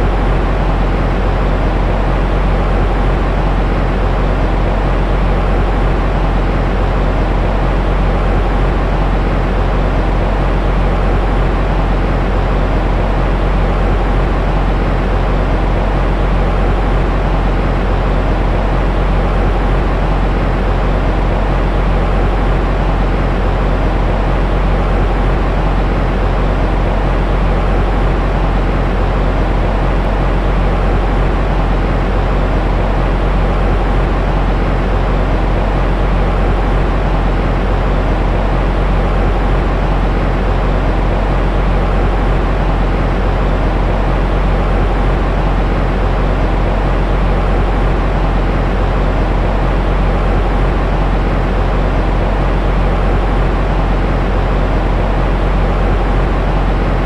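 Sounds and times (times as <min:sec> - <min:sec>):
white noise low rumble: 0:00.0 - 0:57.0.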